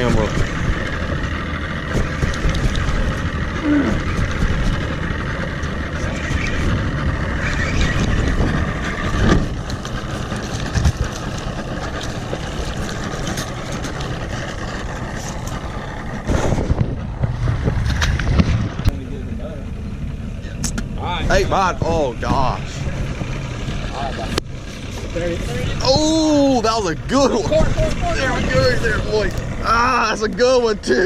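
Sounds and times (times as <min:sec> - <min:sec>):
boat motor running: 0:00.0 - 0:31.0.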